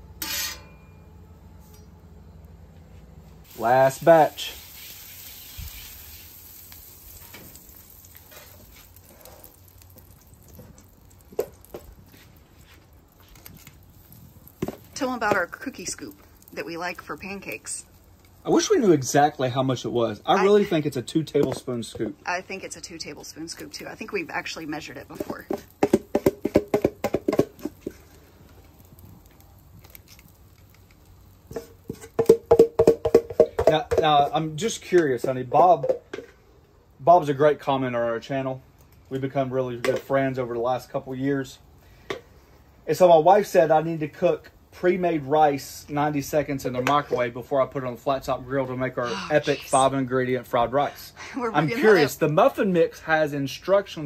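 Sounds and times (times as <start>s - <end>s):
butter sizzling on griddle: 3.4s - 36.3s, 39.2s - 54.0s.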